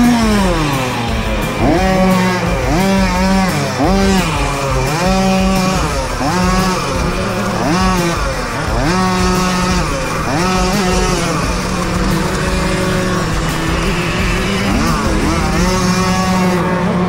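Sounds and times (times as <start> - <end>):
moped two-stroke engine revving: 0.0 - 17.0.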